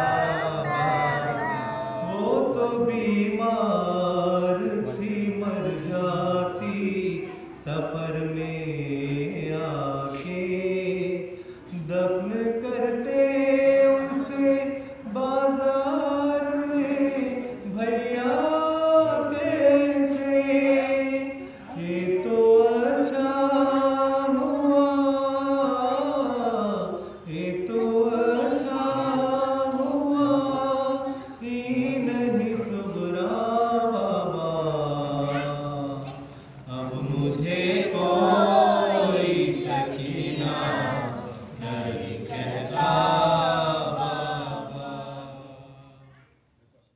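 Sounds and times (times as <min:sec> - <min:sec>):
man chanting into microphone: 0:00.0 - 0:40.0.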